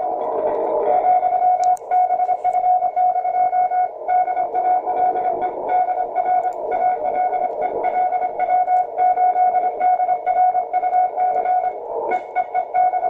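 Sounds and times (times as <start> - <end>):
morse code tone: 0.0 - 13.0
radio band noise: 0.0 - 13.0.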